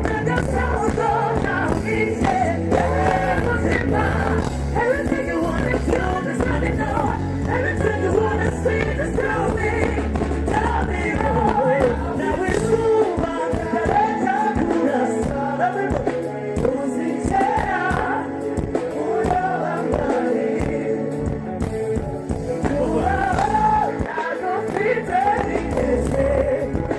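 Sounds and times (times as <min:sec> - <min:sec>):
person singing: 0:00.0 - 0:21.5, 0:22.5 - 0:26.9
live band music over speakers: 0:00.0 - 0:26.9.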